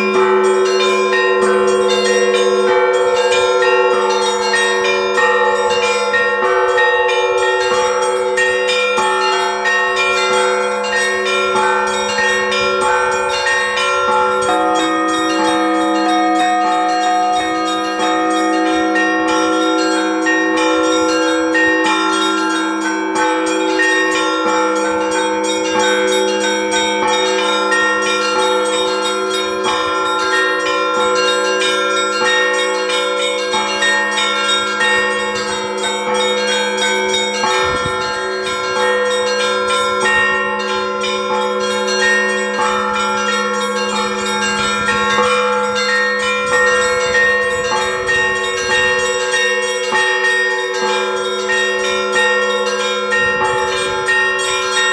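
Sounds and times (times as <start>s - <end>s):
high bells striking quickly: 0.0s - 54.9s
low church bells humming: 0.0s - 54.9s.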